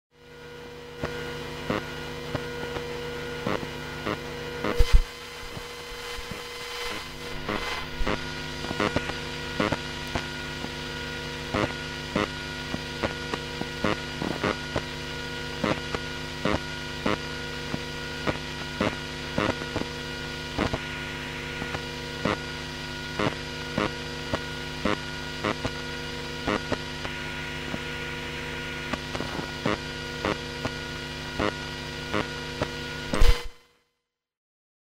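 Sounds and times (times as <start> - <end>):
hard disk hum and whine: 0.1 - 33.6.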